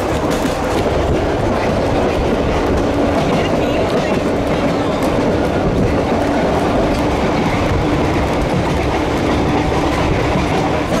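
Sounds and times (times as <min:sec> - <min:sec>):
rail car wheels rumbling: 0:00.0 - 0:11.0.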